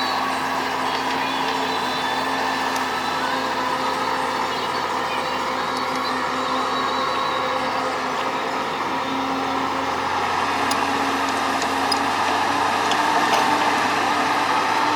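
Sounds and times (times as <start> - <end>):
heavy machinery engine running: 0.0 - 14.9.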